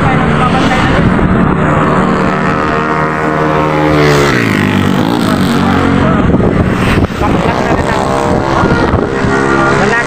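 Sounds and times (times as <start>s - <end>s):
traffic noise: 0.0s - 10.0s
vehicle engine passing by: 0.0s - 10.0s.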